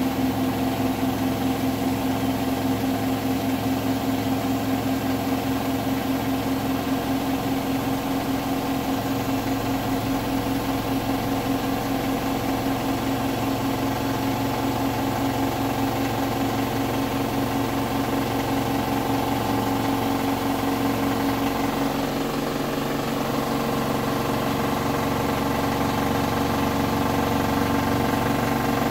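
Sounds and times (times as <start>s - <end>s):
washing machine drum spinning: 0.0s - 28.9s.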